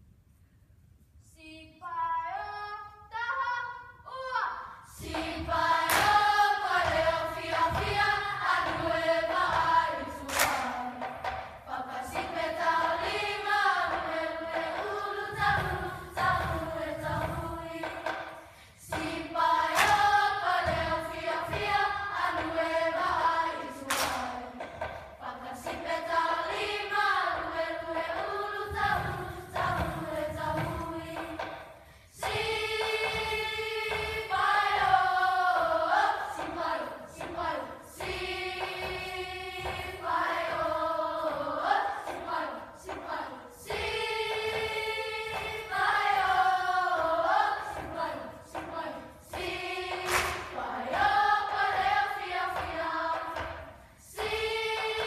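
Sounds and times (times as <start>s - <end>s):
group of voices singing: 4.9s - 55.0s.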